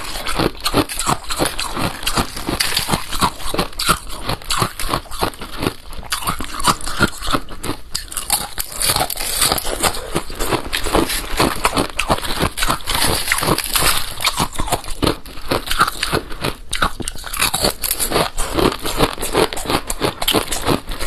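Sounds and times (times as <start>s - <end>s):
ice crunching while chewed: 0.0s - 21.0s.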